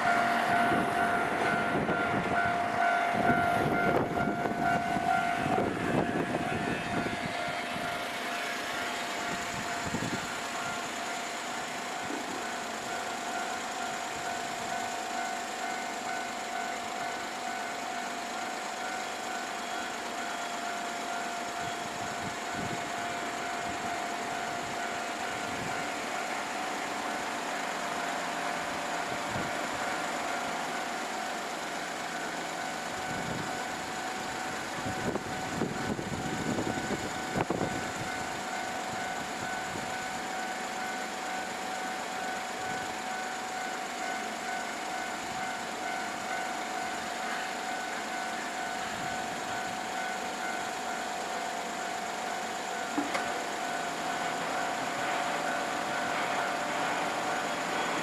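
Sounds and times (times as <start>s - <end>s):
level crossing warning alarm: 0.0s - 58.0s.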